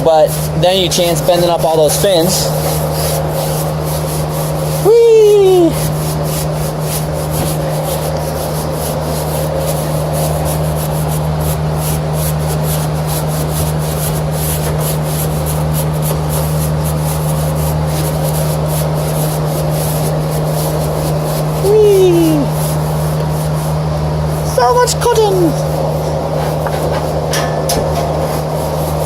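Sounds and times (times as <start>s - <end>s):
steady low hum: 0.0s - 29.0s
stiff brush scraping coil: 0.0s - 29.0s.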